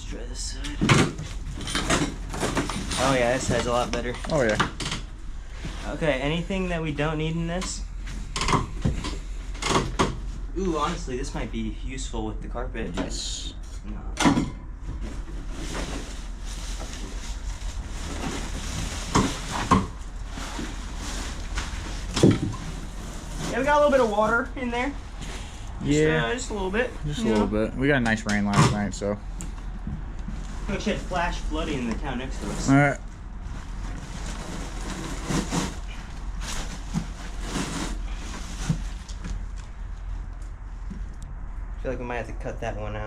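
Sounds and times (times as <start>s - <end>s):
low hum: 0.0s - 43.0s
carpet rustling and scraping: 1.0s - 11.5s, 14.8s - 27.4s, 28.7s - 41.2s.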